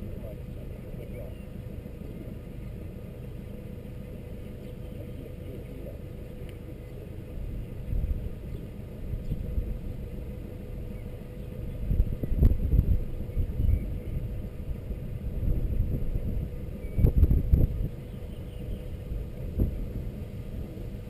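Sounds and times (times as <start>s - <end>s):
boat engine rumbling: 0.0s - 21.0s
wind gusting on microphone: 0.0s - 21.0s.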